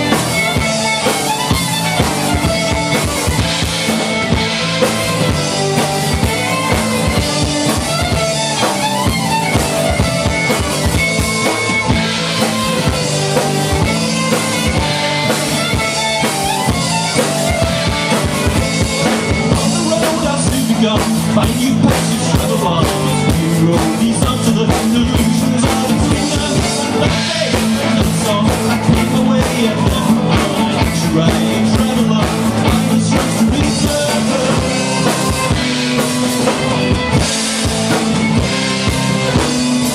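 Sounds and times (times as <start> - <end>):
acoustic and electric guitars: 0.0 - 39.9
drum kit: 0.0 - 39.9
fiddle: 0.0 - 39.9.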